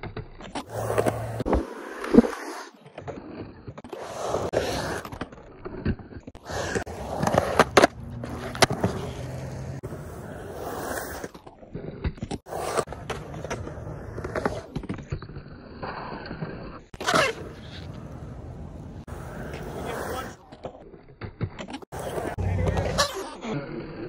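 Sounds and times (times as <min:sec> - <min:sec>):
skateboard rolling on concrete: 0:00.0 - 0:24.0.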